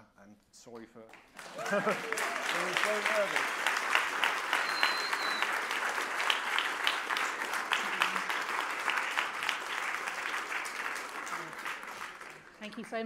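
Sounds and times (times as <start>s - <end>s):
audience applauding: 1.1s - 13.0s.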